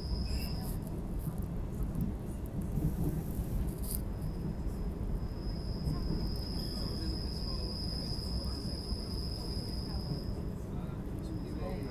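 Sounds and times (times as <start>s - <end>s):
train rumbling: 0.0s - 11.9s.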